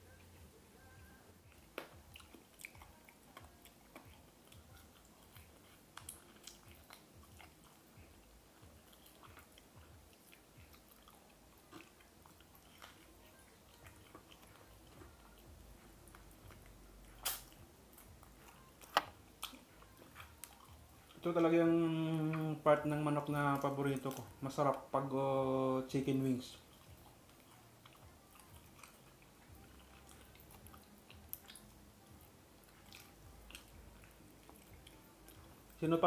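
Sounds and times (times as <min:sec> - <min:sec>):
chewing with small crunches: 0:00.0 - 0:36.0.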